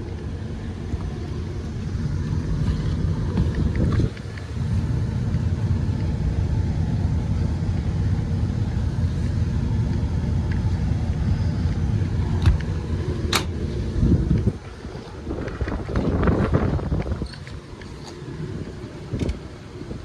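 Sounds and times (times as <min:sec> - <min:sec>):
rooftop fan machinery rumbling: 0:00.0 - 0:20.0
wind buffeting microphone: 0:00.0 - 0:20.0.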